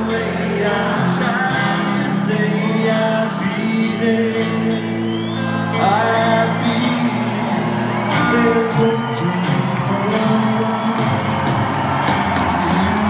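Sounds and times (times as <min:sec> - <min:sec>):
man singing: 0:00.0 - 0:11.5, 0:12.5 - 0:13.0
live rock band playing: 0:00.0 - 0:13.0.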